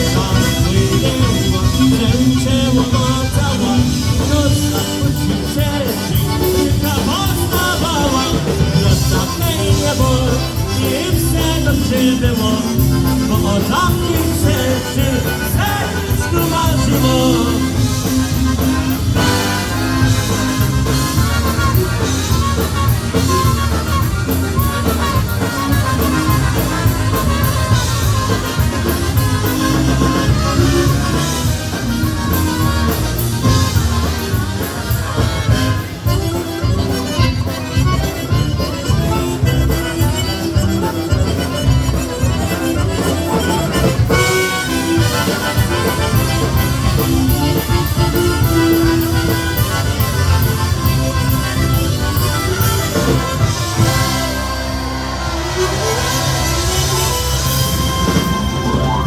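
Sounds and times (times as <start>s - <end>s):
polka band playing: 0.0s - 59.0s.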